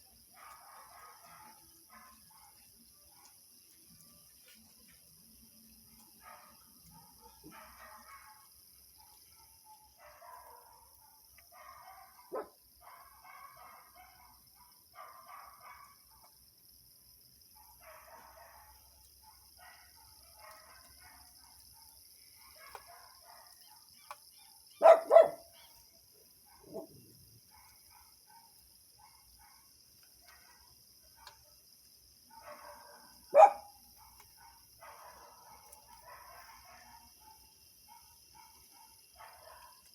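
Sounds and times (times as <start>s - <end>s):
loud close dog barks: 0.2s - 3.4s, 6.0s - 16.4s, 17.5s - 39.9s
distant dogs barking: 0.2s - 4.7s, 5.6s - 16.4s, 17.3s - 39.9s.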